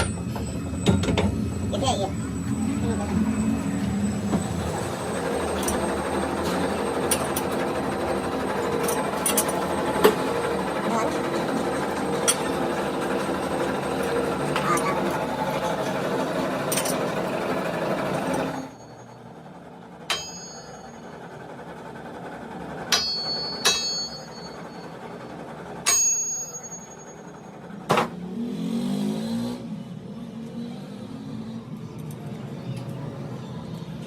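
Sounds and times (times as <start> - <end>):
workshop machine running: 0.0 - 34.0.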